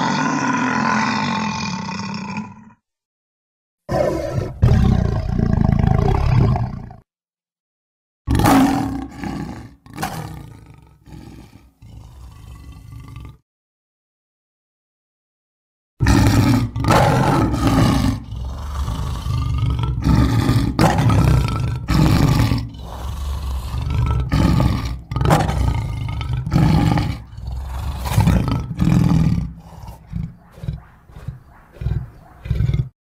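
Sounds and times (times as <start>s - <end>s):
deep creature roars: 0.0s - 2.8s, 3.9s - 7.0s, 8.3s - 13.4s, 16.0s - 33.0s.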